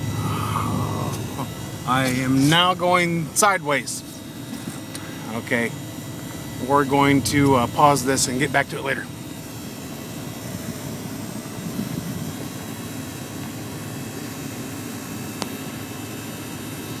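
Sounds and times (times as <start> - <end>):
car engine running: 0.0 - 17.0
heater blower: 0.0 - 17.0.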